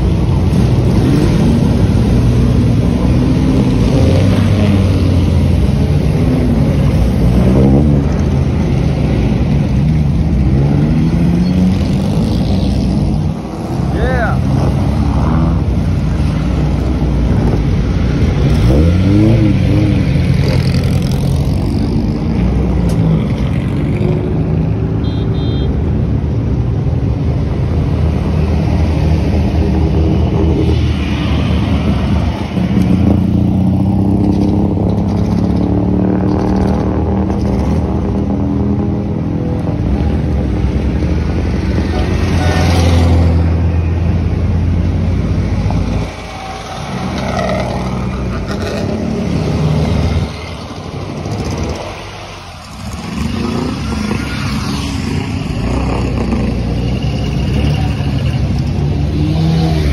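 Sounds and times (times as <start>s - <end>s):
racing car engines revving: 0.0s - 24.9s, 27.6s - 59.9s.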